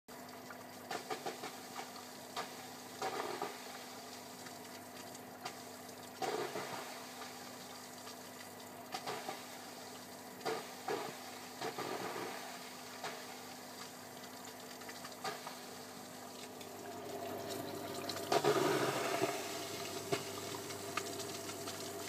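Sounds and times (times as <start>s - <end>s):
aquarium filter humming: 0.1s - 22.0s
bursts of watery noise: 0.1s - 22.0s.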